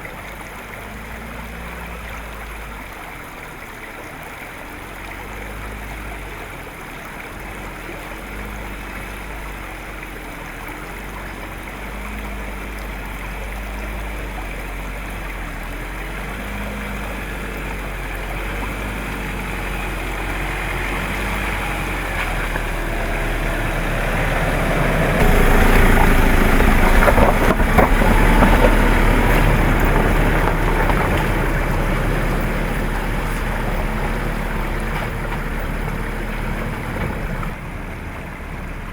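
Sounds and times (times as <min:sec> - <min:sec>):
diesel engine running: 0:00.0 - 0:38.9
water flowing: 0:00.0 - 0:38.9
water rushing and splashing: 0:00.0 - 0:38.9.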